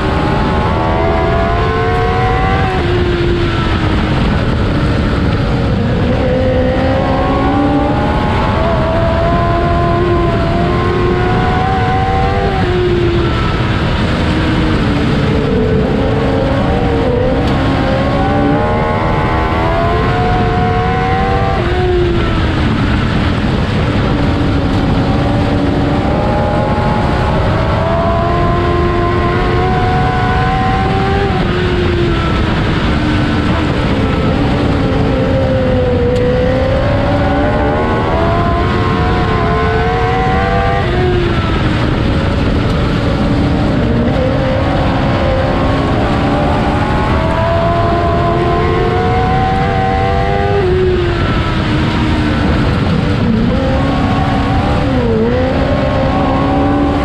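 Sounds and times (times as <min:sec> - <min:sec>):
constant low rumble: 0:00.0 - 0:57.0
race car engine at speed: 0:00.0 - 0:57.0.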